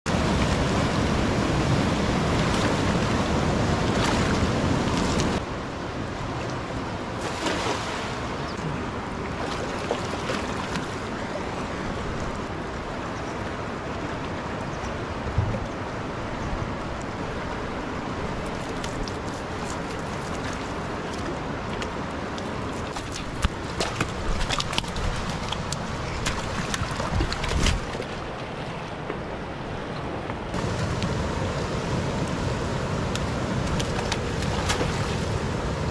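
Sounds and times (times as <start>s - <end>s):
river water rushing: 0.1s - 35.9s.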